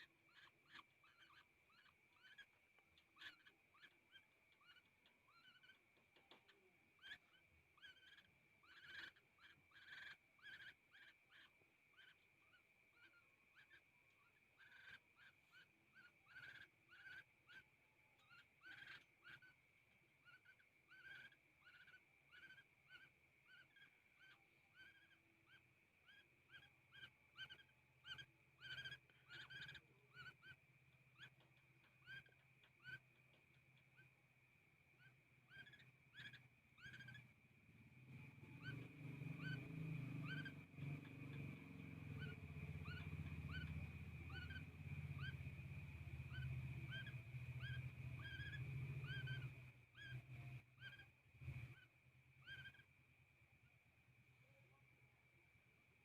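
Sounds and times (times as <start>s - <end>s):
young woodpecker chirping: 0.0s - 53.8s.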